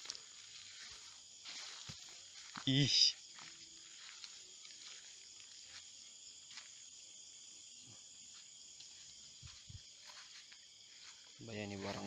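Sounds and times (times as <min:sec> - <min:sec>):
crickets and night insects chirring: 0:00.0 - 0:12.0.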